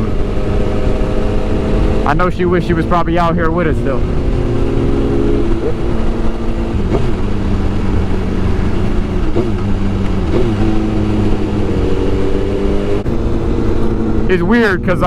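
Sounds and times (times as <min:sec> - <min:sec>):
heavy wind noise: 0:00.0 - 0:15.0
motorcycle engine cruising: 0:00.0 - 0:15.0.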